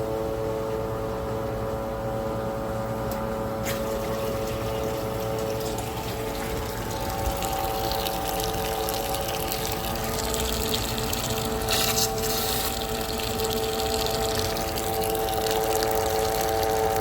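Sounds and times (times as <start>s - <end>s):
pump hum: 0.0s - 17.0s
water flowing through plumbing: 0.0s - 17.0s.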